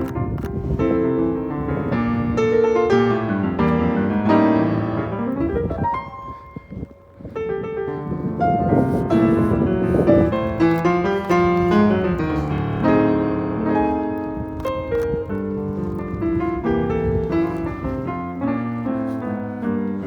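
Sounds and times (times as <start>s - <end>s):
jazz piano music: 0.0s - 20.0s.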